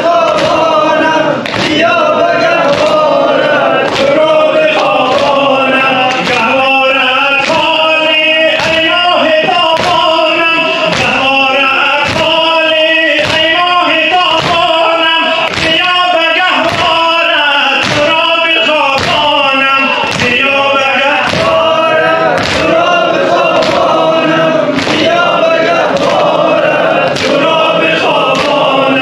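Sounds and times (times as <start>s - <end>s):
man chanting through loudspeaker: 0.0s - 29.0s
rhythmic chest-beating slaps: 0.0s - 29.0s.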